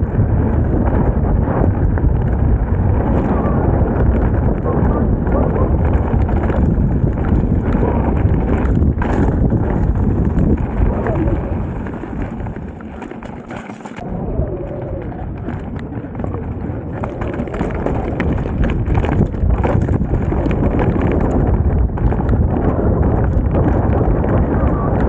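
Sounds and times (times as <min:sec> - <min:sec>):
bike rattling over rocky trail: 0:00.0 - 0:25.0
wind rumble on microphone: 0:00.0 - 0:25.0.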